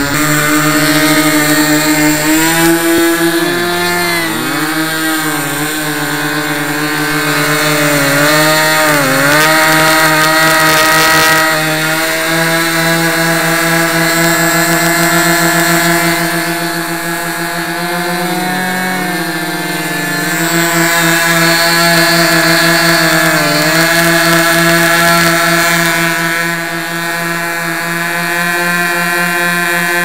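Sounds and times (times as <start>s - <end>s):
model plane engines running: 0.0s - 30.0s.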